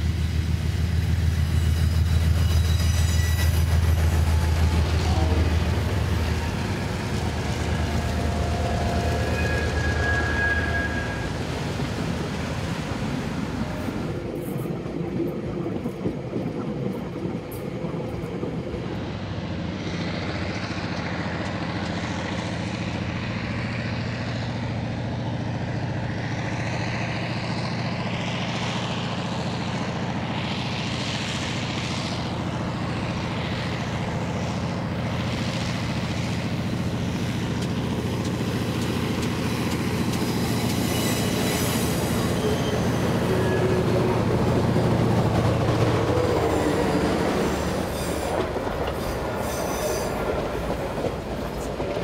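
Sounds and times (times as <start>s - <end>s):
locomotive engine drone: 0.0s - 52.0s
train wheels rushing on track: 0.0s - 52.0s.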